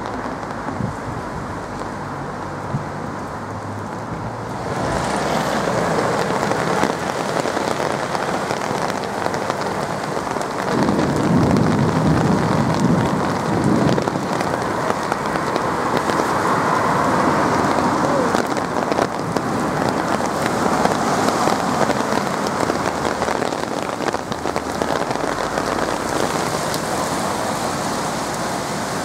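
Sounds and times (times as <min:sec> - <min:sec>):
heavy rain splashing on street: 0:00.0 - 0:29.0.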